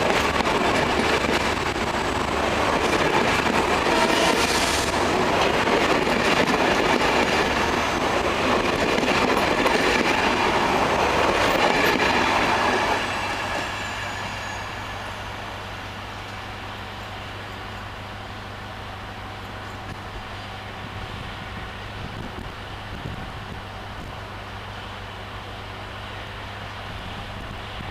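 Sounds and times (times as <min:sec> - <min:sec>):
train wheels rumbling on track: 0:00.0 - 0:27.9.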